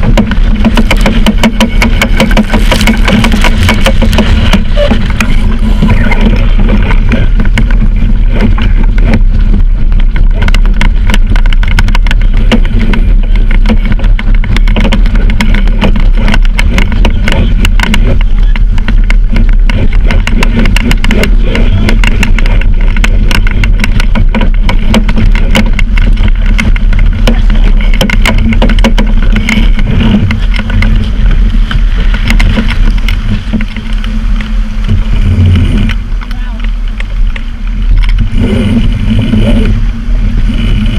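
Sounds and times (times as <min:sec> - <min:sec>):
water rushing along hull: 0:00.0 - 0:40.9
wind buffeting microphone: 0:00.0 - 0:40.9.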